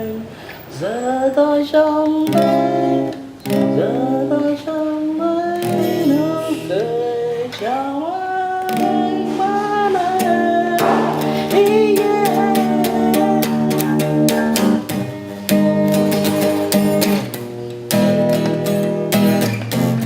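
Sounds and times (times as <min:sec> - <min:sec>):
guitar ballad: 0:00.0 - 0:20.0.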